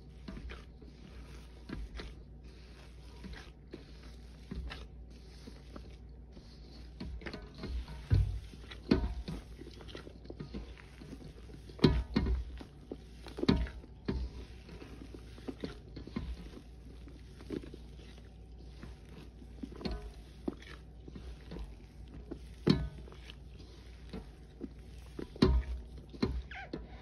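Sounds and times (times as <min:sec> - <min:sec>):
hands kneading damp paste: 0:00.0 - 0:27.0
squelches and thuds in steel bowl: 0:04.3 - 0:27.0.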